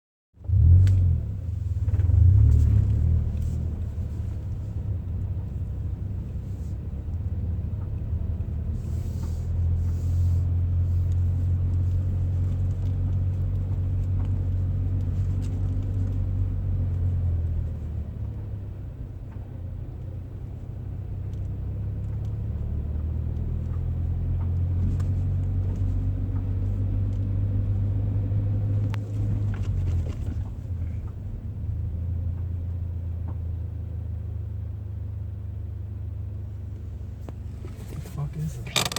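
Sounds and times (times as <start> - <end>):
car engine low rumble: 0.3 - 38.9.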